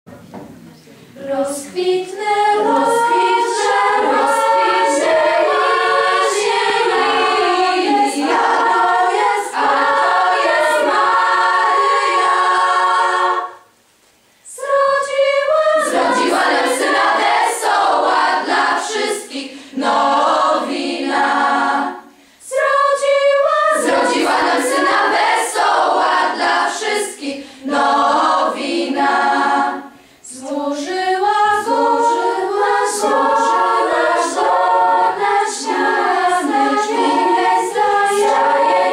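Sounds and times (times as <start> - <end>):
girls' choir singing a cappella: 1.1 - 13.8, 14.4 - 38.9.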